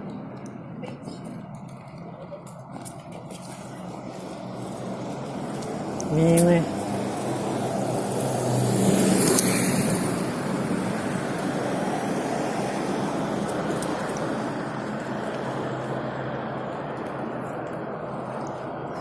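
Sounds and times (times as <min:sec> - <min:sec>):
steady traffic noise: 0:00.0 - 0:19.0
vehicle passing close by: 0:01.4 - 0:19.0.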